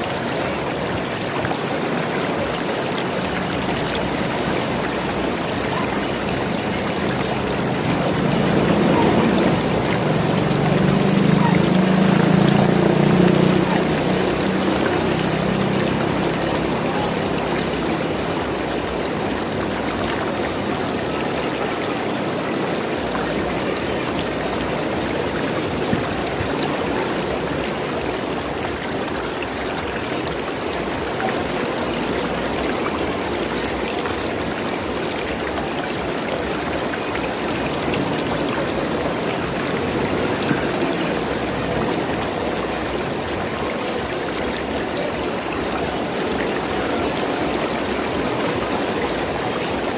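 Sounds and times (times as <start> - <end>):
running water gurgling: 0.0 - 49.9.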